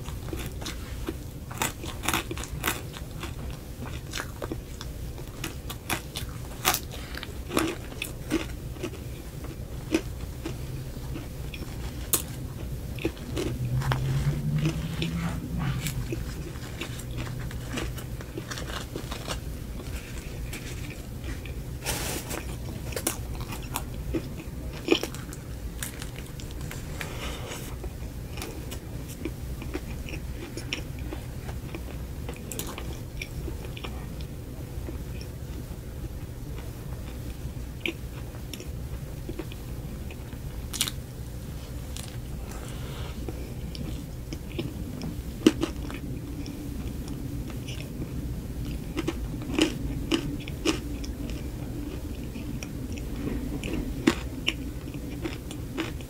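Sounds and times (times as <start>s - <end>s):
crunchy biting and chewing: 0.0s - 34.0s, 37.8s - 41.0s, 41.8s - 56.0s
steady low hum: 0.0s - 56.0s.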